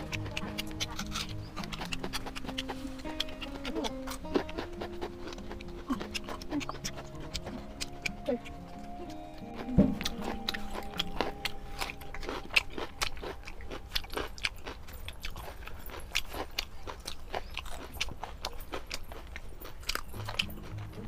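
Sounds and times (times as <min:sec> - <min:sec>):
chewing and wet mouth clicks: 0:00.0 - 0:21.0.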